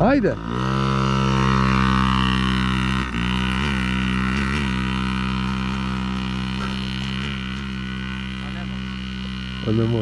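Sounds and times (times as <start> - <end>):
dirt bike engine idling: 0.0 - 10.0.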